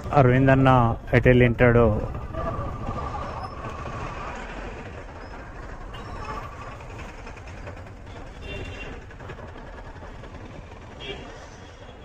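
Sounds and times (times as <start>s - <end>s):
motorcycle engine rumble: 0.0s - 12.0s
wind and road noise: 0.0s - 12.0s.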